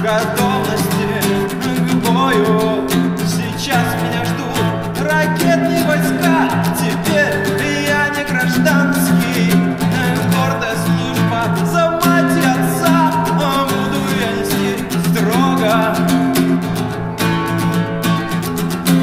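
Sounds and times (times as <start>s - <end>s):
person singing: 0.0s - 18.4s
acoustic guitar strumming: 0.0s - 19.0s.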